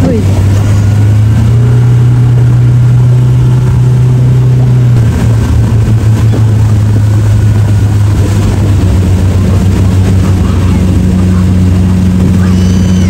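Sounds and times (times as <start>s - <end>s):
motorboat engine running hard: 0.0s - 13.0s.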